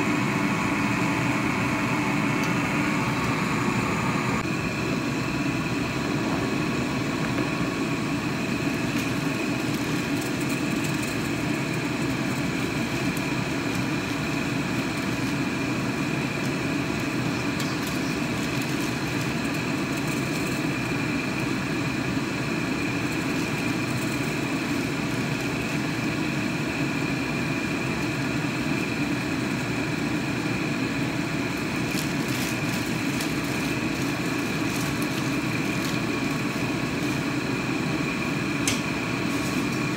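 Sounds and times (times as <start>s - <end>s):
gas stove burning: 0.0s - 39.9s.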